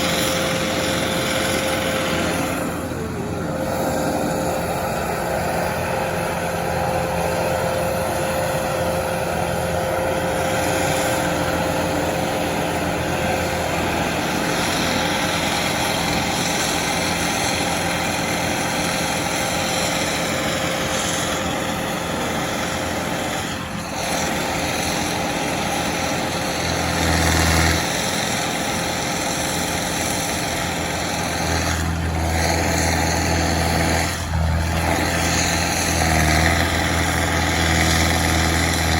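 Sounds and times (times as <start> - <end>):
heavy equipment engine running: 0.0 - 38.9.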